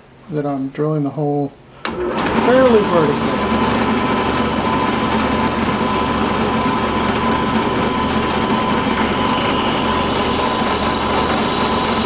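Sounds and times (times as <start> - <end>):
electric drill boring wood: 1.9 - 12.0.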